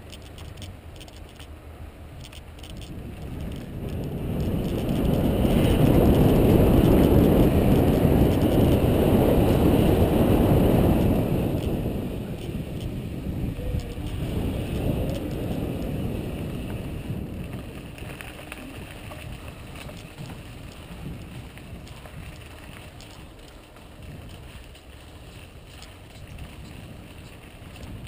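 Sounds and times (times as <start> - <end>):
bike rattles and clicks: 0.0 - 28.0
tyre noise on dirt: 0.0 - 28.0
wind buffeting microphone: 0.0 - 28.0.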